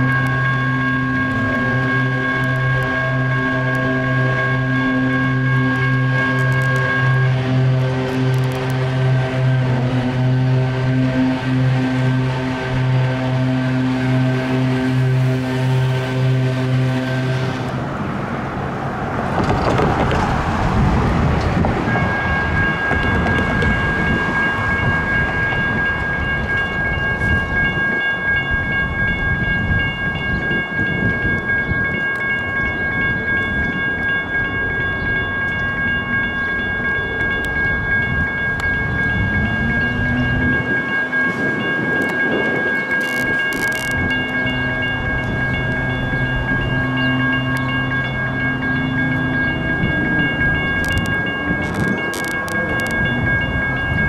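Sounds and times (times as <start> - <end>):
low whine rising in pitch: 0.0 - 18.1, 20.4 - 54.0
railroad crossing bell ringing: 0.0 - 18.1, 19.4 - 54.0
train rumbling on track: 0.0 - 54.0.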